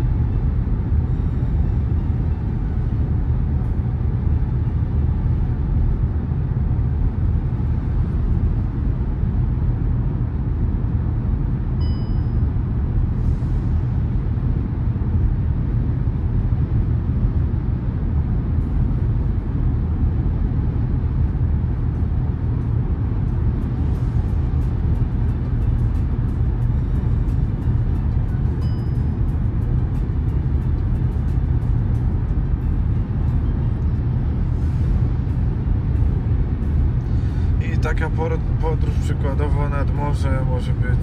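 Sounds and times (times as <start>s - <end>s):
road and tyre rumble in car: 0.0s - 41.0s.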